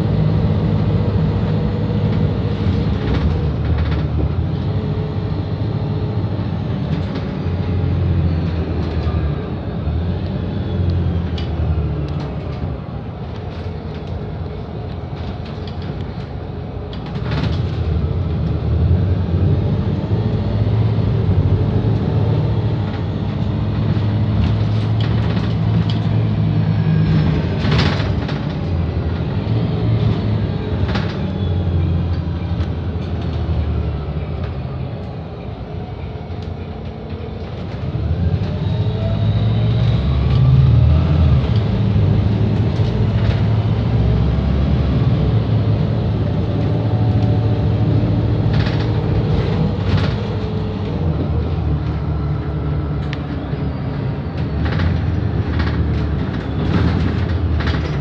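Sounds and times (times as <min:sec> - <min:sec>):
bus diesel engine from inside: 0:00.0 - 0:58.0.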